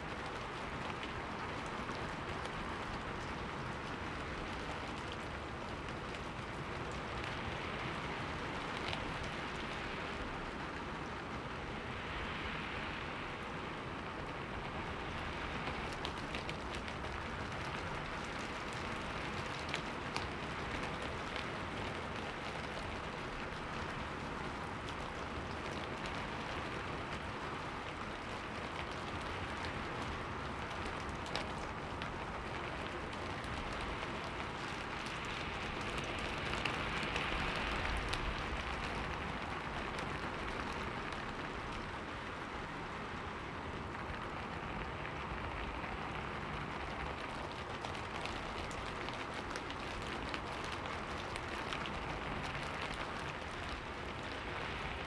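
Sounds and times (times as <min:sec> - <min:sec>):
rain pattering on window: 0:00.0 - 0:55.0.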